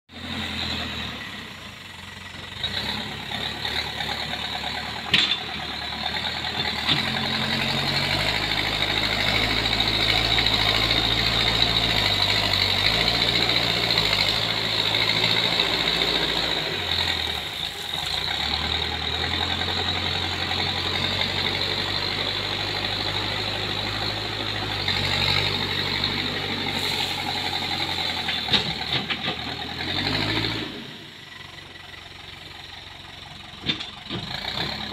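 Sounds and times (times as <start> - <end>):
diesel engine under load: 0.1 - 34.9.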